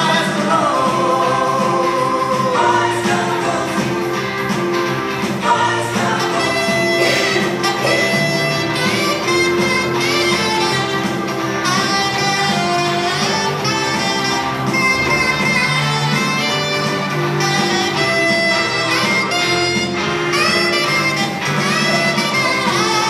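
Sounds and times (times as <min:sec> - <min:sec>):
instrumental music: 0:00.0 - 0:23.0.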